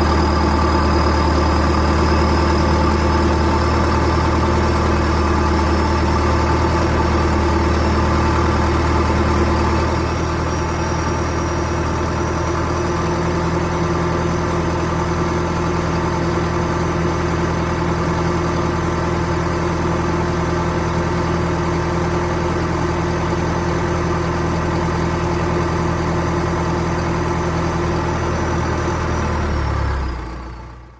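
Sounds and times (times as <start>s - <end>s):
heavy engine idling: 0.0s - 30.9s.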